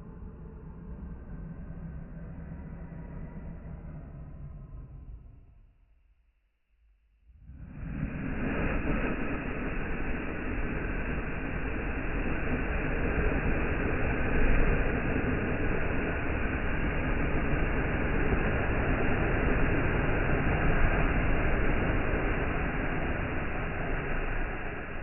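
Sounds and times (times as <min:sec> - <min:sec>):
rushing wind with deep rumble: 0:00.0 - 0:05.8, 0:07.3 - 0:25.0.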